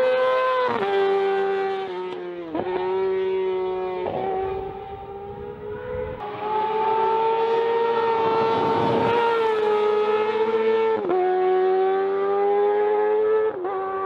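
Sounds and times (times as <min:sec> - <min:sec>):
motorcycle engine revving hard: 0:00.0 - 0:14.0.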